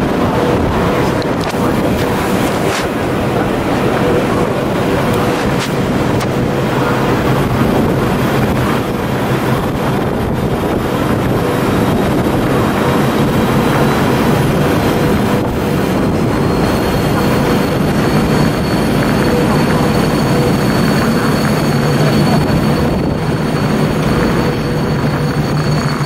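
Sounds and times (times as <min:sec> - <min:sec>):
electric train noise: 0:00.0 - 0:26.0.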